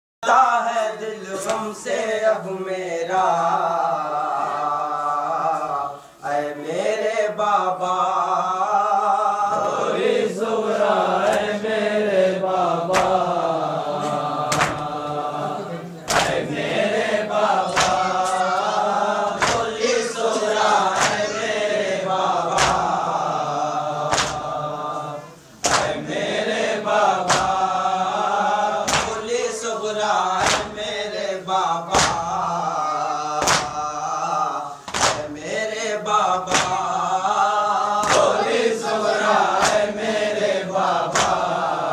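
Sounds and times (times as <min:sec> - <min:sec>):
voices chanting a lament: 0:00.2 - 0:41.9.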